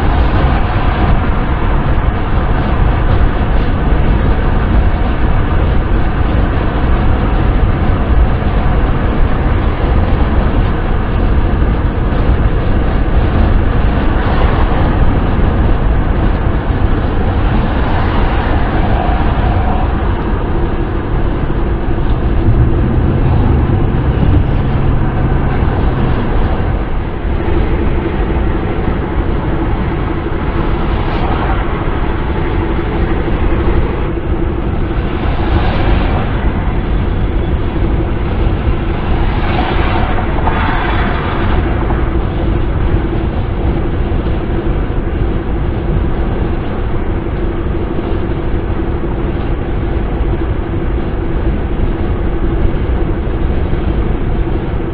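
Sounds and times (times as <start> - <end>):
car road and wind noise: 0.0 - 54.9
low steady drone: 0.0 - 54.9.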